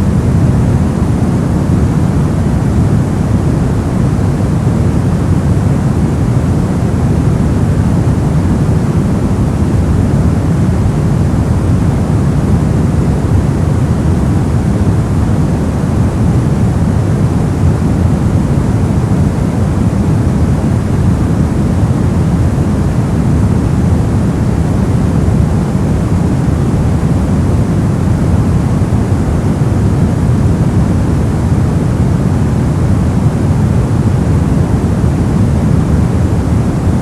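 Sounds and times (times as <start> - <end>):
deep rumbling white noise: 0.0 - 37.0.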